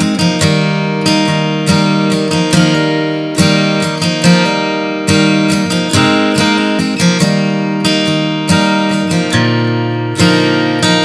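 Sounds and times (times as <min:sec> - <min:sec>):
strummed guitar chords: 0:00.0 - 0:11.0.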